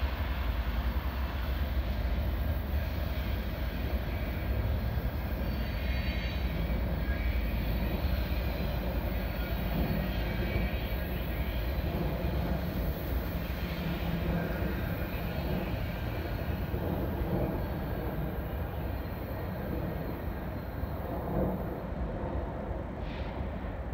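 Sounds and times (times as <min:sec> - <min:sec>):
train cars rumbling on rails: 0:00.0 - 0:23.9.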